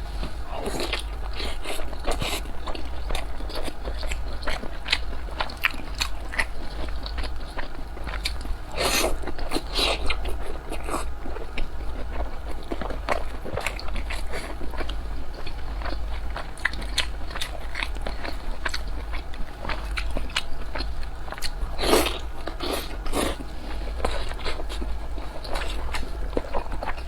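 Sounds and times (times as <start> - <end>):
steady low hum: 0.0 - 27.0
wet chewing mouth sounds: 0.2 - 27.0.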